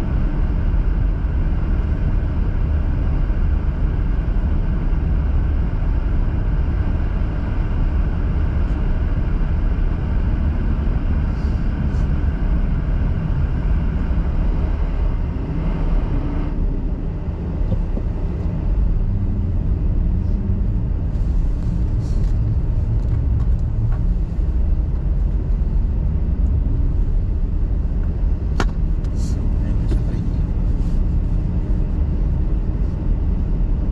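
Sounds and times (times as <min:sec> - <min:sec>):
car engine rumble: 0:00.0 - 0:33.9
road noise: 0:00.0 - 0:33.9.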